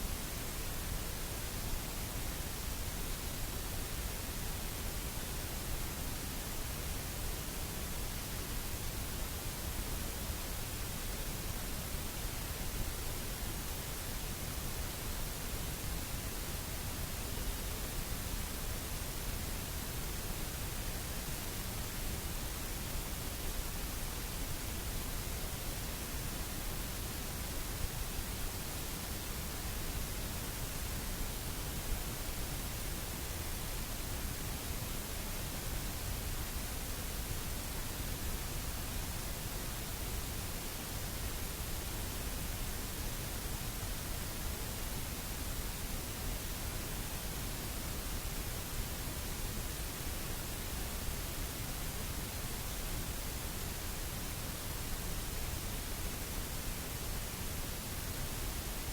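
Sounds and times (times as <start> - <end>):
static-like hiss: 0.0 - 58.9.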